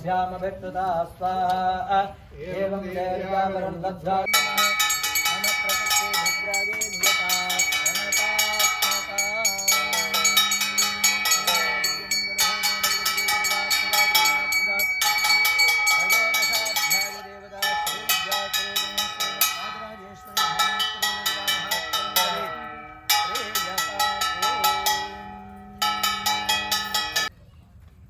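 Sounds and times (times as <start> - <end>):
hand bell ringing rapidly: 4.3 - 27.3.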